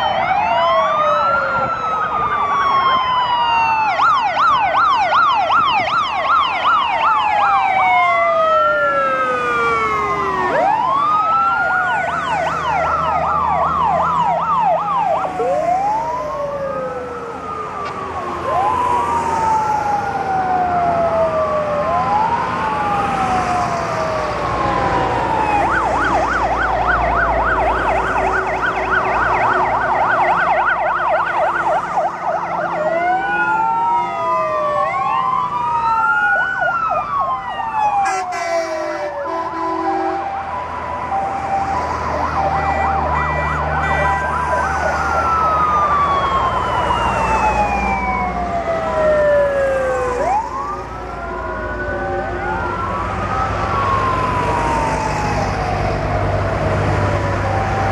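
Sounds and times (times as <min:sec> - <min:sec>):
fast yelping siren: 0:00.0 - 0:57.9
fire engine sirens wailing: 0:00.0 - 0:57.9
low hum of truck engines: 0:00.0 - 0:57.9.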